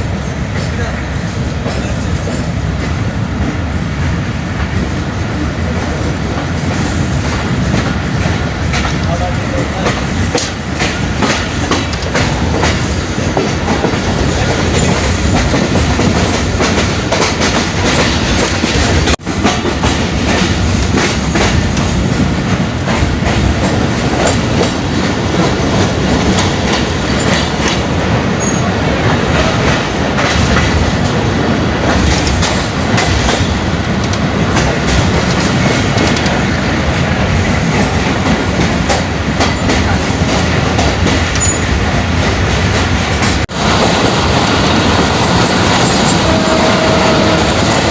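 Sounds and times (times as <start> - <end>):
train wheels clattering over rails: 0.0 - 47.9.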